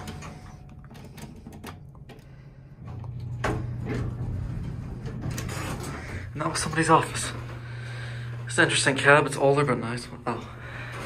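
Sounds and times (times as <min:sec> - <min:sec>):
elevator machinery hum: 0:00.0 - 0:11.0.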